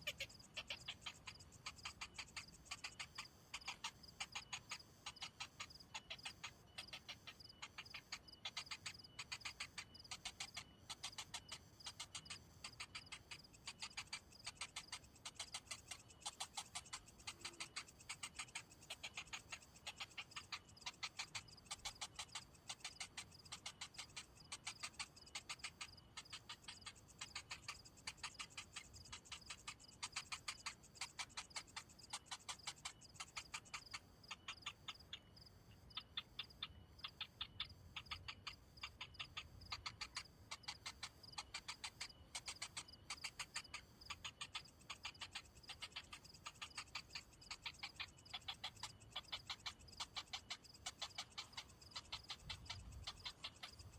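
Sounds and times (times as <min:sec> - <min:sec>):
nestlings ticking calls: 0:00.0 - 0:53.9.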